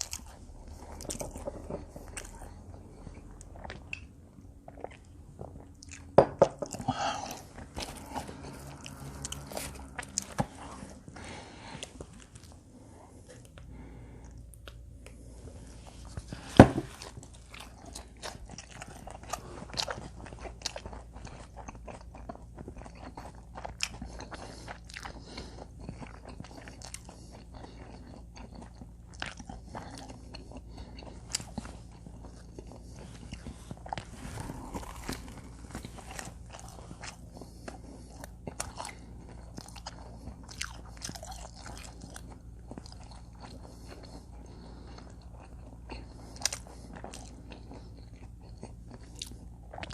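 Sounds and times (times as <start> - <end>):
crunching and wet chewing: 0.0 - 49.9.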